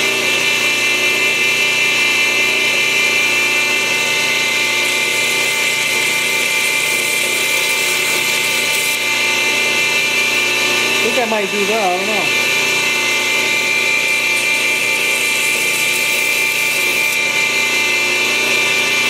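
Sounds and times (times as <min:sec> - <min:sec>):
belt grinder whine: 0:00.0 - 0:19.0.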